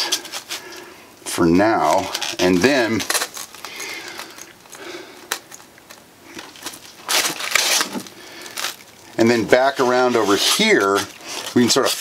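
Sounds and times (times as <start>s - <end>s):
styrofoam rubbing and crunching: 0.0s - 4.5s, 6.3s - 12.0s.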